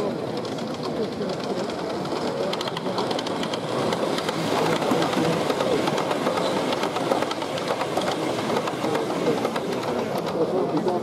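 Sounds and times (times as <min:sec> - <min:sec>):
model train rumbling: 0:00.0 - 0:11.0
wheels ticking over rail joints: 0:00.0 - 0:11.0.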